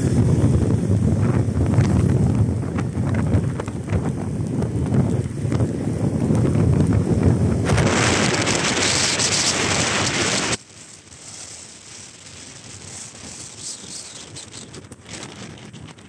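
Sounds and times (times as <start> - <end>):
road noise hiss: 0.0 - 16.0
wind buffeting microphone: 0.0 - 16.0.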